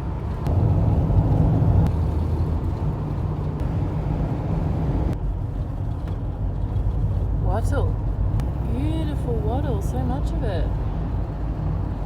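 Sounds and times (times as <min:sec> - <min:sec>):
vehicle road noise rumble: 0:00.0 - 0:12.0.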